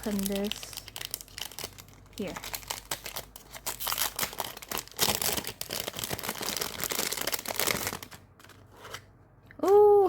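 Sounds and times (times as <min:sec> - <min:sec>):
packaging crinkling: 0:00.0 - 0:09.0.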